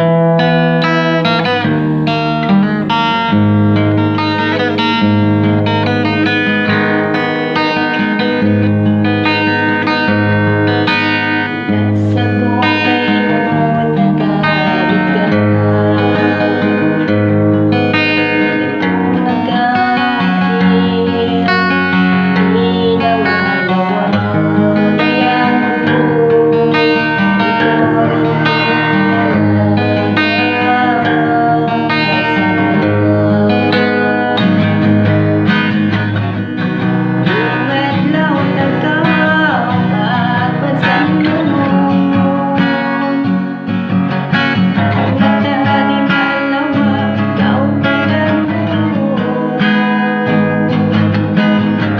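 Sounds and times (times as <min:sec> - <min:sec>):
person singing: 0:00.0 - 0:51.9
plucked guitar music: 0:00.0 - 0:51.9.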